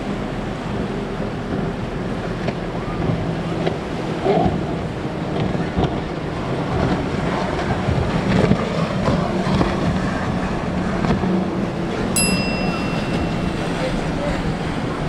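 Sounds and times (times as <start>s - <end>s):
boat engine hum: 0.0s - 15.0s
hull spray and waves: 0.0s - 15.0s
wind buffeting microphone: 0.2s - 15.0s.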